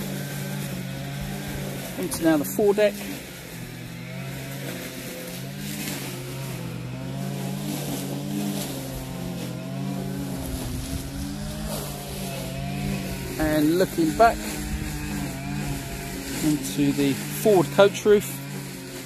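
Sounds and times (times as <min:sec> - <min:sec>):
petrol engines droning: 0:00.0 - 0:19.0.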